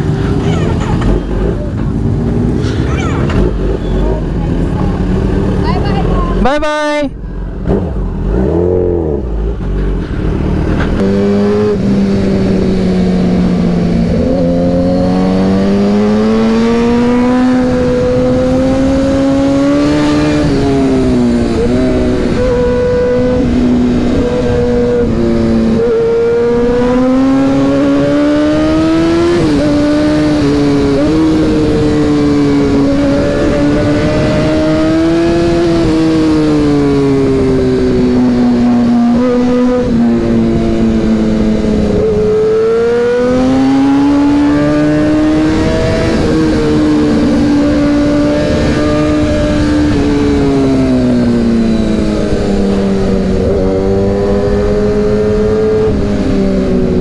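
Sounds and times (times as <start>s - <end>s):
motorcycle engine revving: 0.0s - 6.4s, 7.4s - 57.0s.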